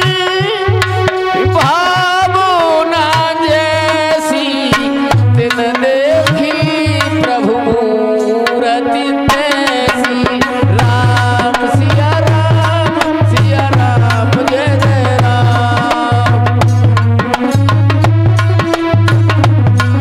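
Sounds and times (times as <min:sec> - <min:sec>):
hand drums: 0:00.0 - 0:08.7, 0:09.3 - 0:20.0.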